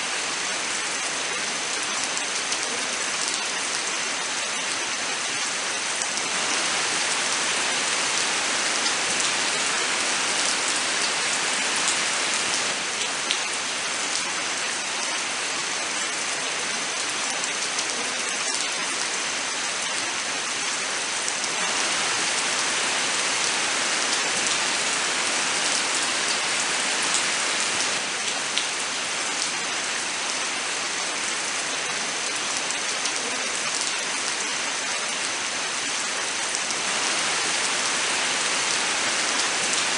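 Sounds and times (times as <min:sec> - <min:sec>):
steady rain in a forest: 0:00.0 - 0:39.9.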